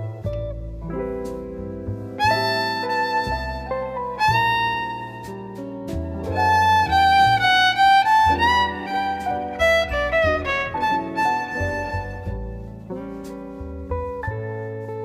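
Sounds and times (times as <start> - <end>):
instrumental music with violin lead: 0.0 - 15.0.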